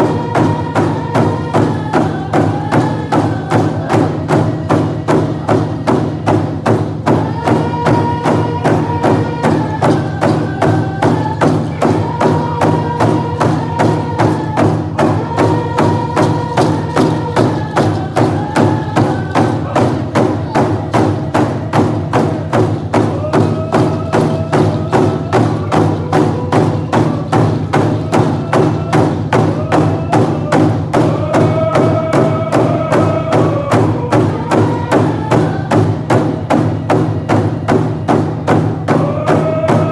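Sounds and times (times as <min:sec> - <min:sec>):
group of voices singing: 0:00.0 - 0:39.9
hand drums beating: 0:00.0 - 0:39.9.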